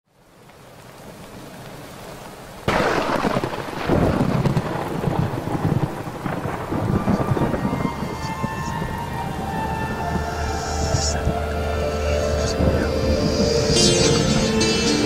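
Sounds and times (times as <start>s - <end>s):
heavy rain hissing: 0.1s - 15.0s
thunderclap rumbling: 2.7s - 15.0s.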